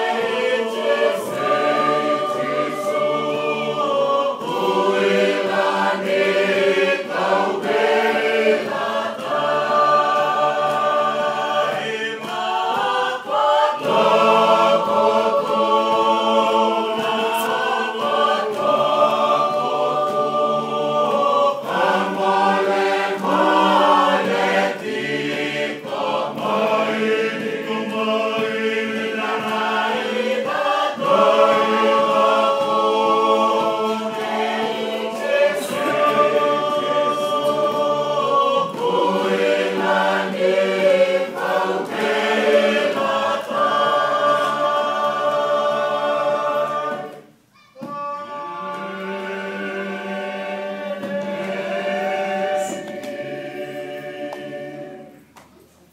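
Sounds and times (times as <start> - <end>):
group singing unaccompanied: 0.0 - 55.9.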